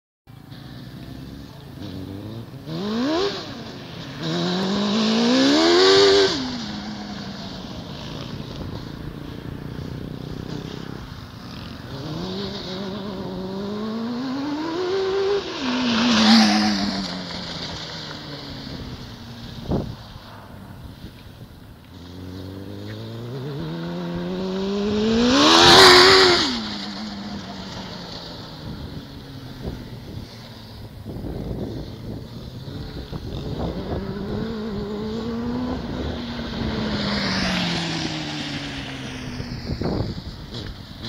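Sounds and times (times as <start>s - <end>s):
motorcycle engine revving: 0.3s - 41.0s.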